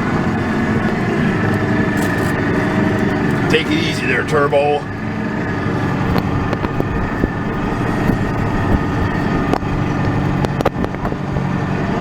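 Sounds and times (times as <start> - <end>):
faint steady whine: 0.0 - 10.8
tractor diesel engine running: 0.0 - 12.0.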